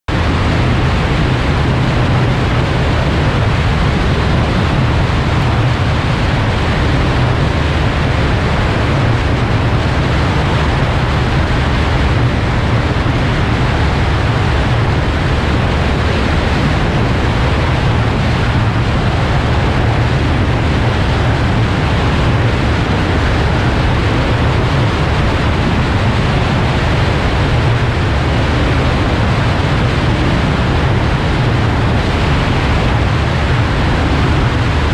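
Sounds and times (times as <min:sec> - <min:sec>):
wind rush on microphone: 0:00.0 - 0:34.9
airplane engine and propeller drone: 0:00.1 - 0:34.9.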